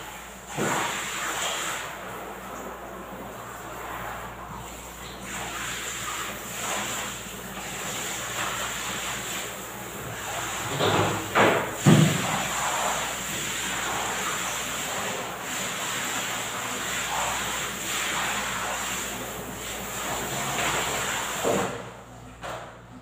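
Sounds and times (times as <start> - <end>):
water running: 0.0 - 22.1.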